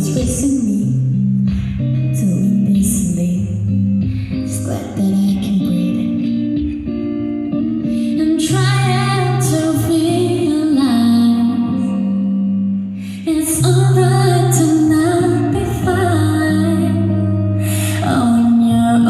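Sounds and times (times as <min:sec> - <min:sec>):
instrumental backing with bass: 0:00.0 - 0:19.0
woman singing pop ballad: 0:00.0 - 0:19.0.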